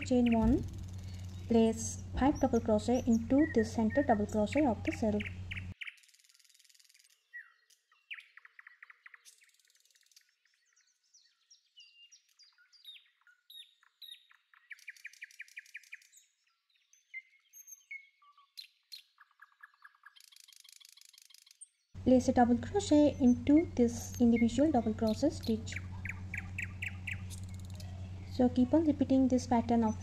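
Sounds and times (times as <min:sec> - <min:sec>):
birds chirping and trilling: 0:00.0 - 0:30.0.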